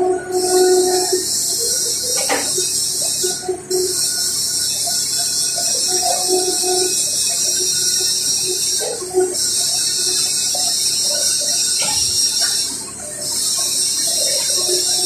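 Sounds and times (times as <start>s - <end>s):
arc welding hiss: 0.3s - 15.0s.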